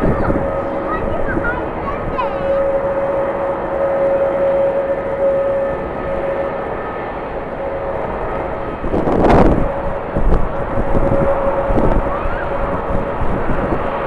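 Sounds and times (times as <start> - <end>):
jet engines whining: 0.0 - 14.0
wind on microphone: 0.0 - 14.0.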